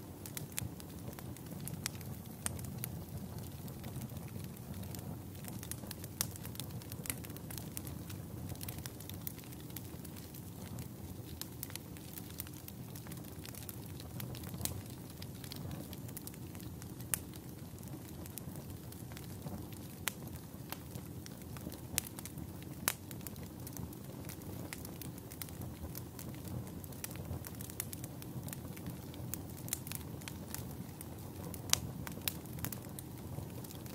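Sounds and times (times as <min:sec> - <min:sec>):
fire crackling and popping: 0:00.0 - 0:33.9.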